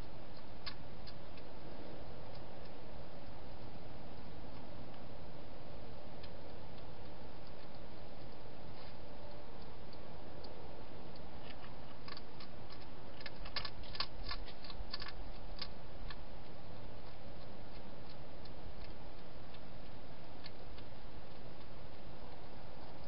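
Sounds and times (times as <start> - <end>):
hedgehog crunching dry food: 0.0 - 23.0.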